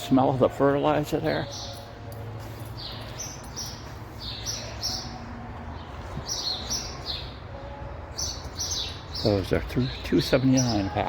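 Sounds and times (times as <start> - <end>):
small birds chirping: 0.8 - 11.0.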